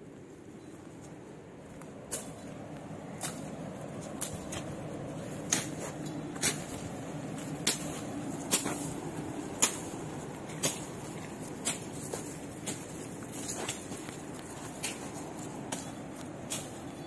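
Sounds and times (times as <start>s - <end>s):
steady low rumble: 0.0s - 17.0s
footsteps crunching through undergrowth: 0.2s - 17.0s.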